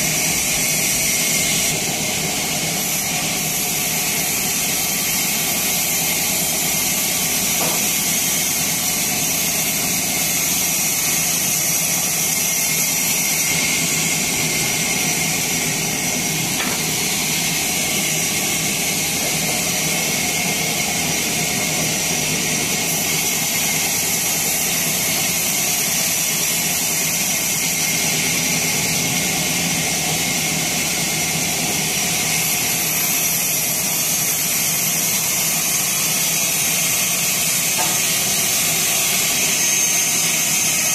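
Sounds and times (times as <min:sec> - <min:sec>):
sawmill saw cutting timber: 0:00.0 - 0:40.9.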